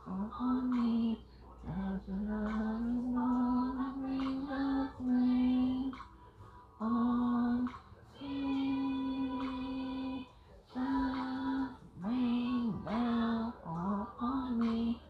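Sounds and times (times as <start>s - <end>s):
person singing unaccompanied: 0.0s - 6.1s, 6.7s - 15.0s.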